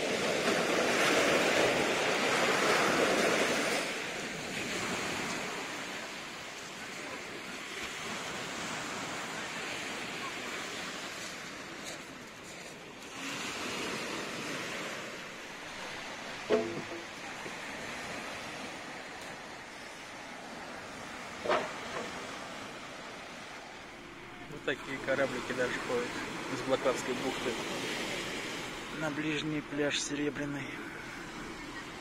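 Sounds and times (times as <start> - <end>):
sea surf washing on shore: 0.0 - 32.0.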